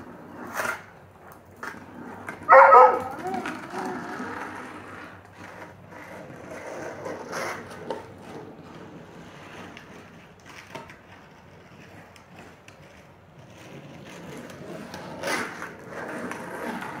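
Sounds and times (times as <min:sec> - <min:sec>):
skateboard wheels rolling: 0:00.0 - 0:17.0.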